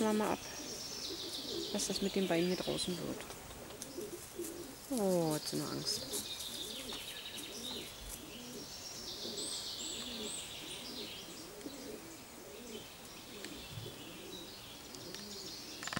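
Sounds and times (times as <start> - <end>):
dove cooing: 0.0 - 15.9
songbirds chirping and whistling: 0.0 - 15.9.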